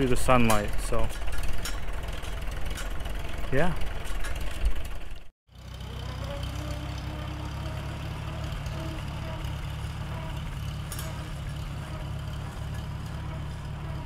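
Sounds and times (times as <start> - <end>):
faint gear whine: 0.0 - 14.0
tractor engine running: 0.0 - 14.0.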